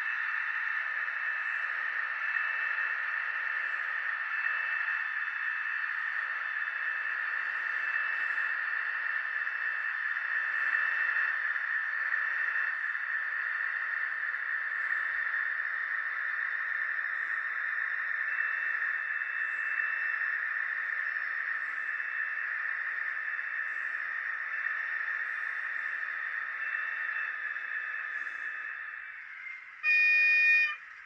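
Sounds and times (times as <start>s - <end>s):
faint high whine: 0.0s - 31.0s
model locomotive hissing drone: 0.0s - 31.0s.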